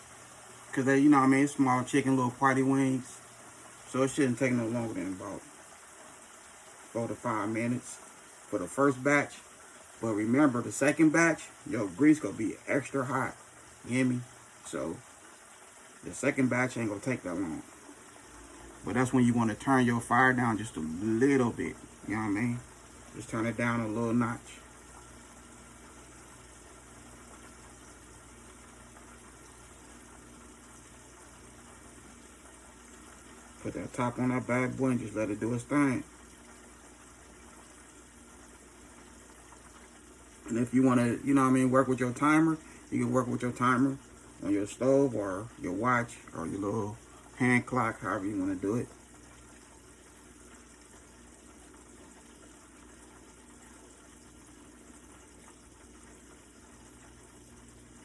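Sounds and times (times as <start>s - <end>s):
oil sizzling: 0.0s - 58.0s
wings frying in grease: 0.0s - 58.0s.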